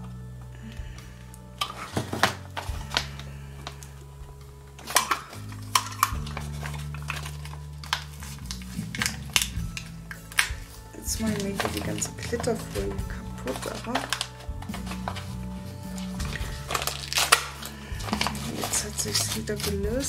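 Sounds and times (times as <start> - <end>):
background music with sustained chords: 0.0 - 20.0
foil sheet clicking and crinkling: 0.0 - 20.0.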